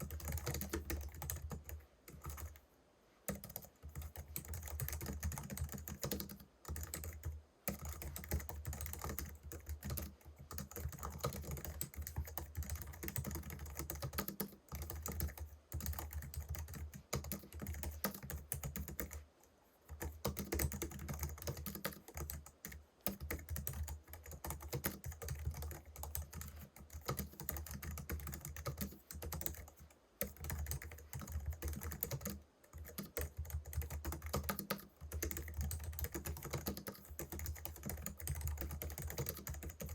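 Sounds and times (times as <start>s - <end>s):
keyboard typing: 0.0s - 2.6s, 3.3s - 19.2s, 19.9s - 39.9s.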